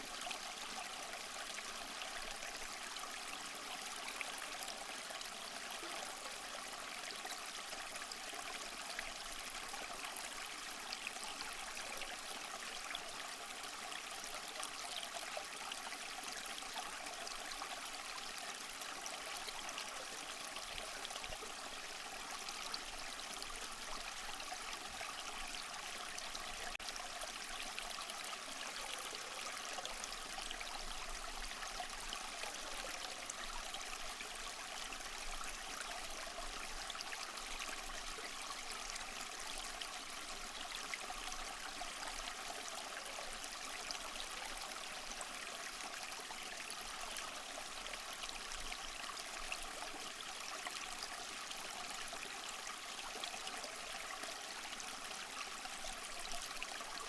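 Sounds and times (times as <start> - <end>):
small waterfall splashing over rocks: 0.0 - 57.0.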